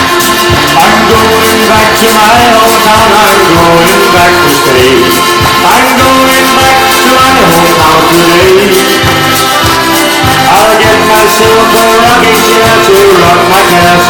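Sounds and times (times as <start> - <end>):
live folk band playing: 0.0 - 14.0.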